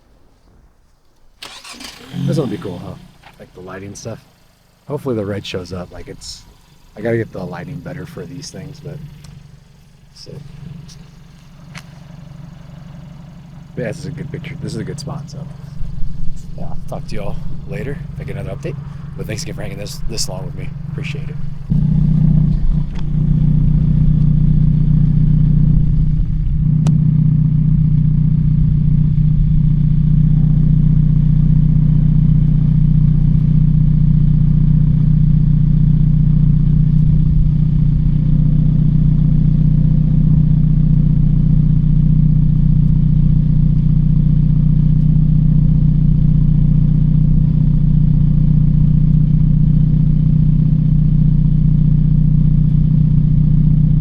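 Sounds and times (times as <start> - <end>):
car engine droning: 0.0 - 54.0
faint clicks: 8.5 - 30.2, 32.2 - 54.0.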